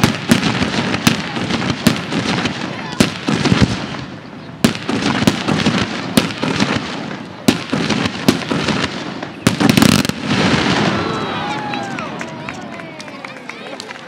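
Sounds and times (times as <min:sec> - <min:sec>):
firework hiss and crackle: 0:00.0 - 0:11.9
firework bangs: 0:00.0 - 0:12.8.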